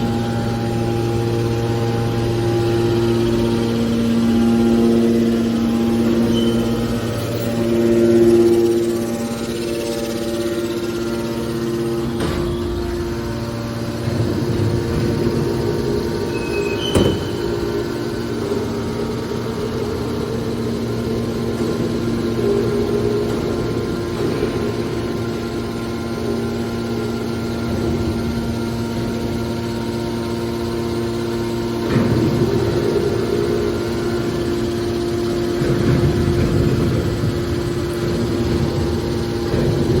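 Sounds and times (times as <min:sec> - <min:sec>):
baler machine hum: 0:00.0 - 0:40.0.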